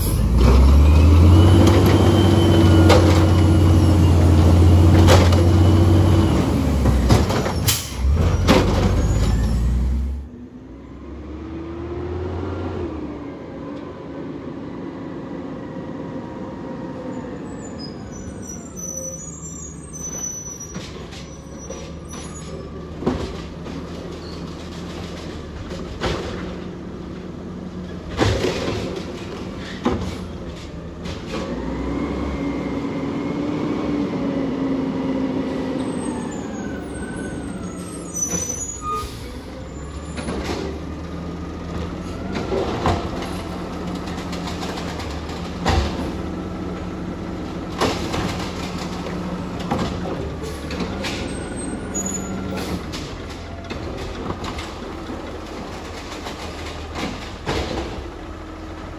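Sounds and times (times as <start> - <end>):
garbage truck engine running: 0.0 - 10.6, 18.9 - 58.9
diesel engine revving: 0.0 - 17.6, 22.0 - 58.9.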